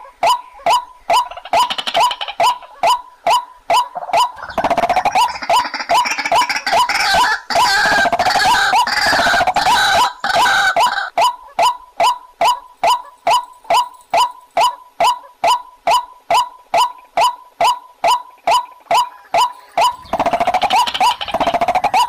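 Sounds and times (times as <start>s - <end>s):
bird calling short sharp notes: 0.0s - 22.0s.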